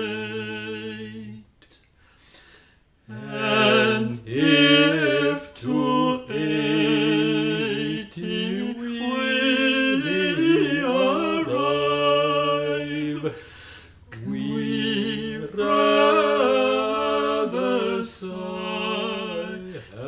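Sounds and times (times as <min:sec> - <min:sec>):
unaccompanied hymn singing: 0:00.0 - 0:01.5, 0:03.0 - 0:20.0.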